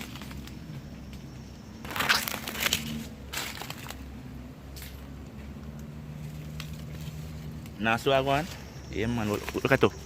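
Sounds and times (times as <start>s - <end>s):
leaves and twigs crunching underfoot: 0.0s - 10.0s.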